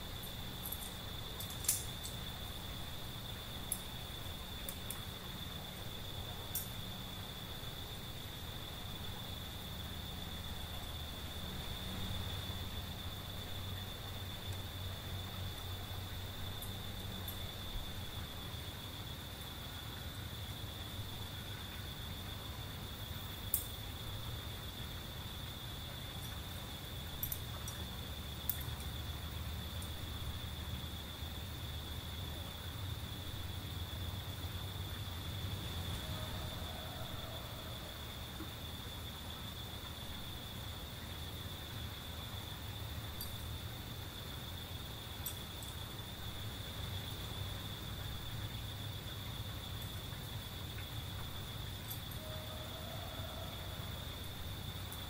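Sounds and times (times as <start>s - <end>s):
crickets buzzing: 0.0s - 55.0s.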